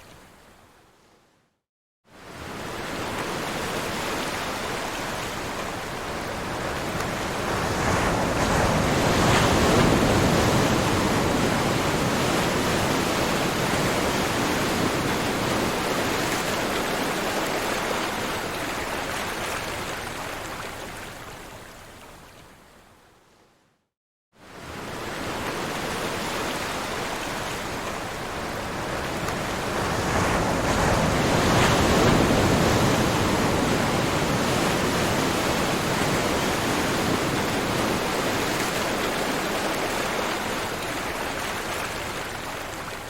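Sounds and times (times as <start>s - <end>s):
ocean waves washing on shore: 2.1s - 22.7s, 24.4s - 43.0s.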